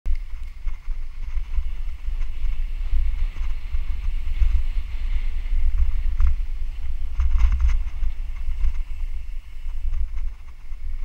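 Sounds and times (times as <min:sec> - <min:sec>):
wind buffeting microphone: 0:00.0 - 0:11.0
tyres hissing on dirt trail: 0:00.1 - 0:11.0.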